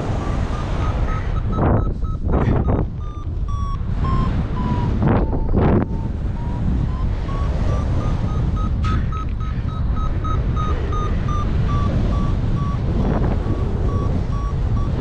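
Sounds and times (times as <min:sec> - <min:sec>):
variometer beeping: 0:00.0 - 0:15.0
wind rushing on microphone: 0:00.0 - 0:15.0.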